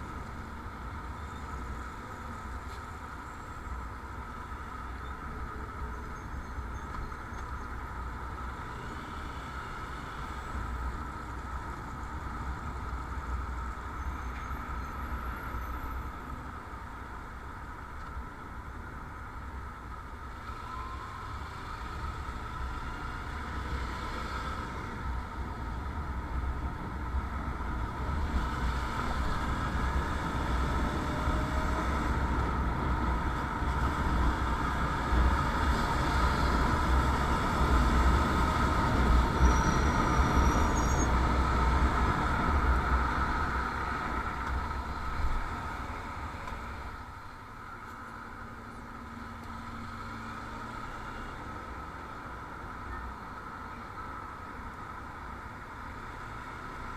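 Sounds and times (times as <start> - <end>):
vehicle and road noise: 0.0 - 56.9.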